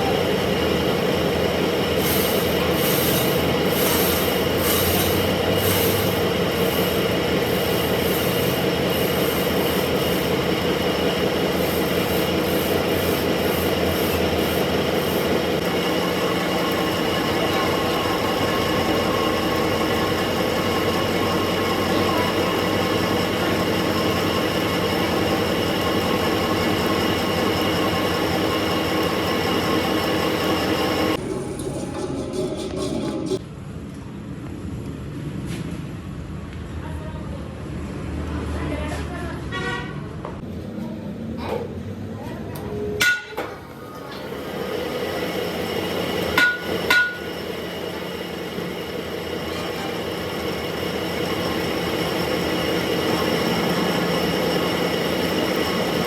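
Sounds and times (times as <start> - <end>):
lathe running: 0.0 - 33.4, 43.0 - 56.0.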